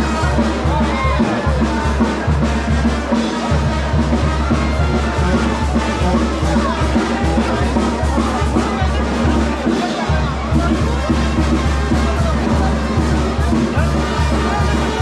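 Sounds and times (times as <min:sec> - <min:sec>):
music with deep drum beat: 0:00.0 - 0:15.0.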